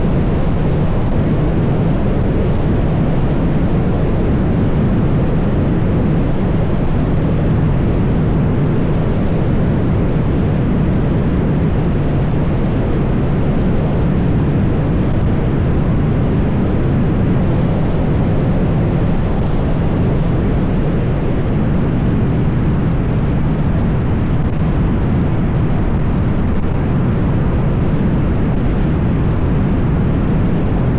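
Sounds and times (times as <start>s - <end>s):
wind rushing over microphone: 0.0s - 30.9s.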